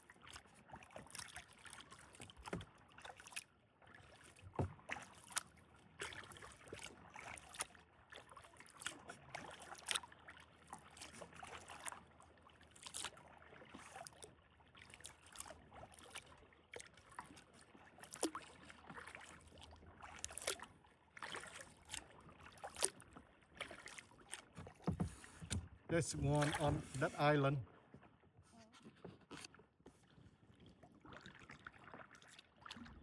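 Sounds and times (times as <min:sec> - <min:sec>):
kayak paddle splashing water: 0:00.0 - 0:33.0.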